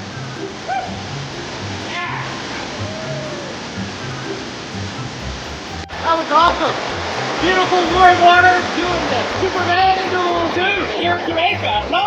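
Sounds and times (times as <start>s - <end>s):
background music with bass line: 0.0s - 12.0s
waterfall rushing: 0.0s - 12.0s.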